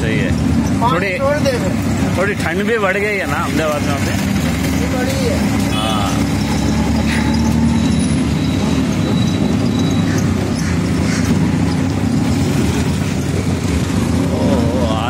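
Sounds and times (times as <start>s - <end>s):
auto-rickshaw engine running: 0.0s - 15.0s.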